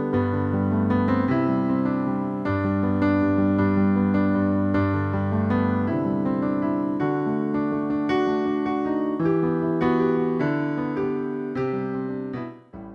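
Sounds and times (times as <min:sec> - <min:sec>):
electric piano chords: 0:00.0 - 0:12.9.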